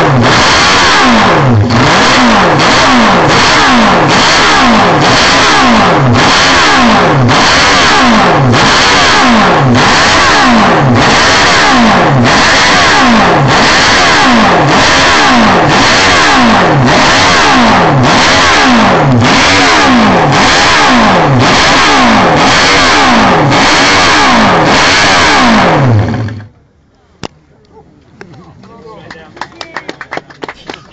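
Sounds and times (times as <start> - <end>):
motorcycle engine revving: 0.0 - 26.6.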